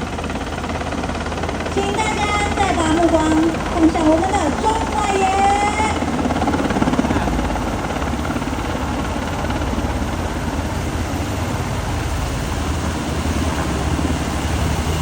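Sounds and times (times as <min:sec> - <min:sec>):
helicopter rotors beating: 0:00.0 - 0:15.0
turbine and wind rush: 0:00.0 - 0:15.0.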